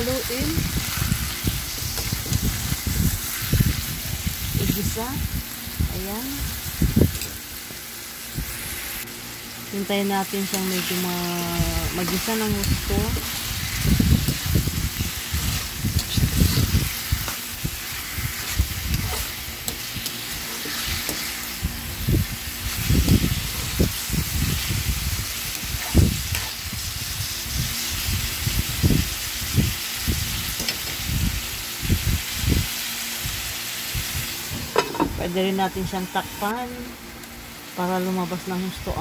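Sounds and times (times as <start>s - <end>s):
chicken sizzling in oil: 0.0s - 36.8s.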